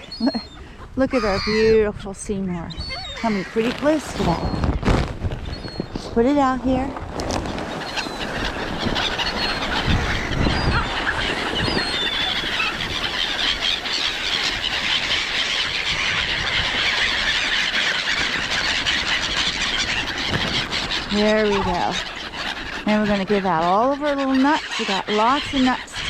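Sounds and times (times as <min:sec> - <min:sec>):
gulls calling: 0:00.0 - 0:26.0.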